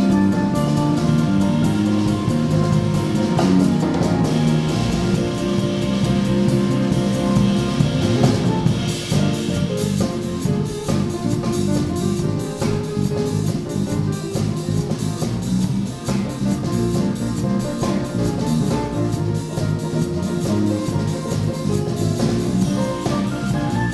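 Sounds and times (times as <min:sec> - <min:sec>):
jazz piano trio playing: 0:00.0 - 0:23.9.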